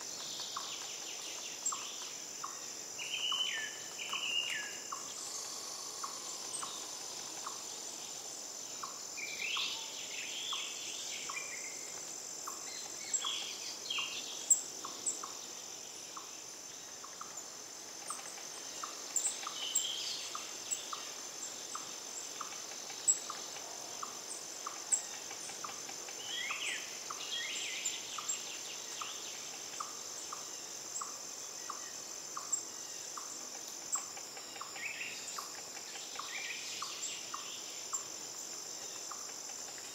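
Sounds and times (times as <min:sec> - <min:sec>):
high-pitched insect drone: 0:00.4 - 0:39.9.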